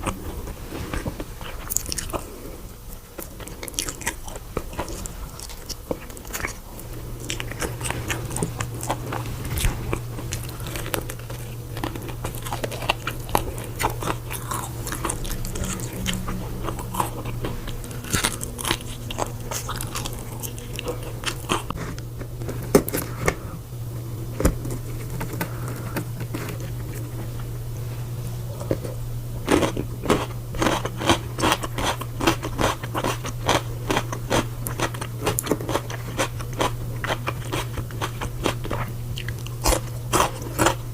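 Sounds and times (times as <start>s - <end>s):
crunchy food being chewed: 0.0s - 40.9s
steady low hum: 0.0s - 40.9s.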